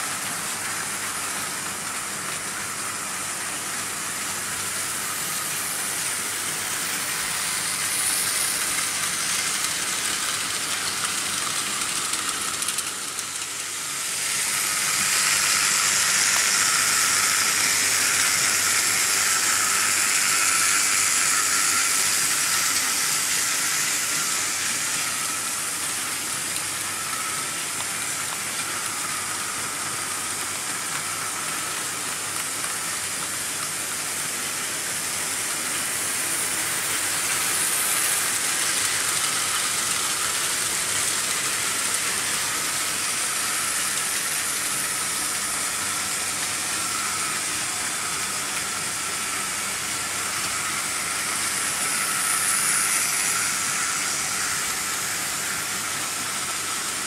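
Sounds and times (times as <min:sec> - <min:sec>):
faint motor whine: 0:00.0 - 0:57.0
model train wheels on metal rails: 0:00.0 - 0:57.0.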